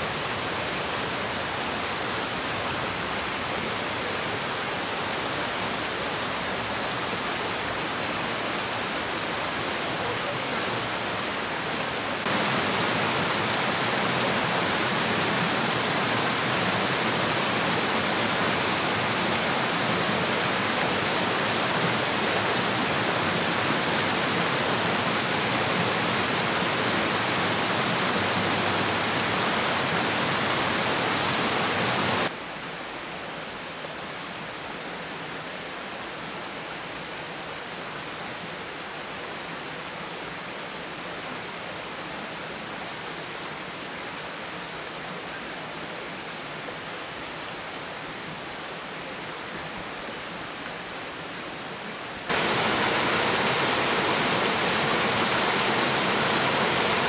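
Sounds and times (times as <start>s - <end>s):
stream rushing over rocks: 0.0s - 34.5s, 35.2s - 57.0s.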